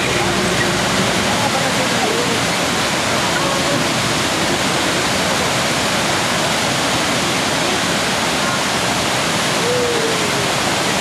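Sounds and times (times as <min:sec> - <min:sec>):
waterfall rushing onto rocks: 0:00.0 - 0:11.0.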